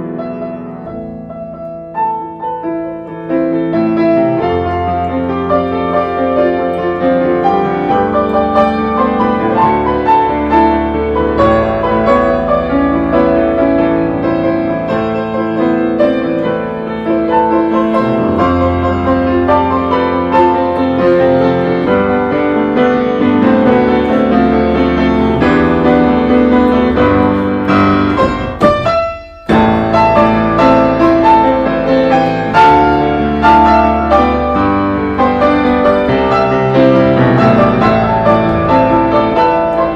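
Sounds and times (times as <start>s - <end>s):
slow piano music: 0.0s - 39.9s.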